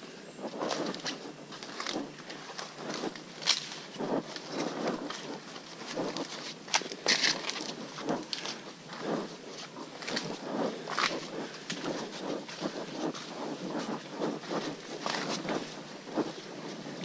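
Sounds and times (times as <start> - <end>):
footsteps on forest trail: 0.4 - 17.0.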